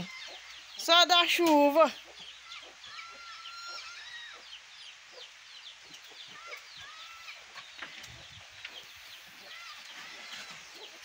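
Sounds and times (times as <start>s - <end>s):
hen calling: 0.0s - 4.6s, 6.0s - 11.0s
chicks peeping: 0.0s - 11.0s
light rain hiss: 0.0s - 11.0s.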